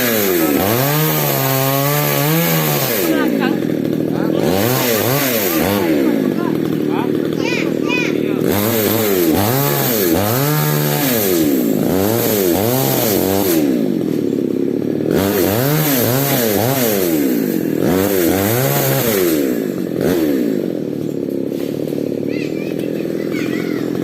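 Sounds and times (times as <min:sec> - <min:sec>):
chainsaw revving while cutting wood: 0:00.0 - 0:24.0.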